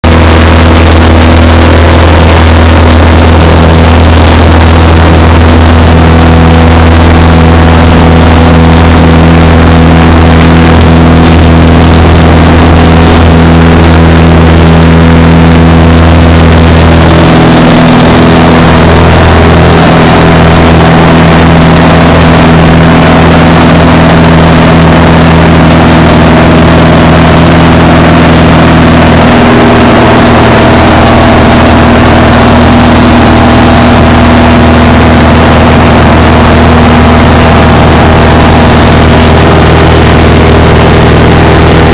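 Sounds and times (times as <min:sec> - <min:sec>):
plane engine and propeller: 0:00.0 - 0:41.9.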